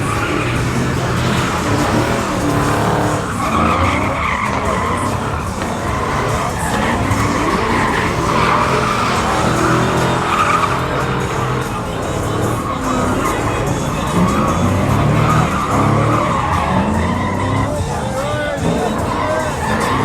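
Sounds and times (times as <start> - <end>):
truck engine at high revs: 0.0 - 20.0
tyres squealing: 0.0 - 20.0.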